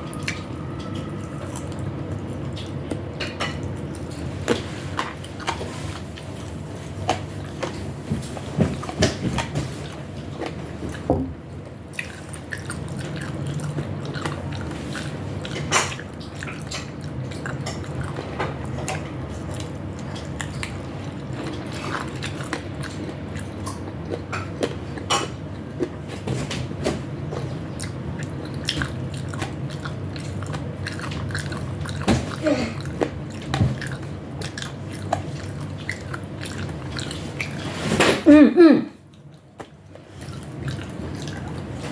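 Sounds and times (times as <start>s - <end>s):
chewing and biting food: 0.0s - 11.1s, 11.7s - 38.2s, 39.0s - 41.9s
steady low hum: 0.0s - 41.9s.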